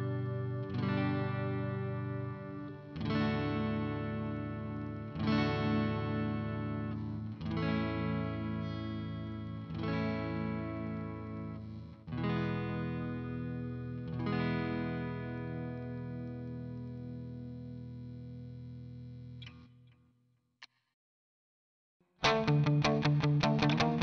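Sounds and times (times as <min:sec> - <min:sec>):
electric guitar strummed chords: 0:00.0 - 0:19.4, 0:22.2 - 0:24.0.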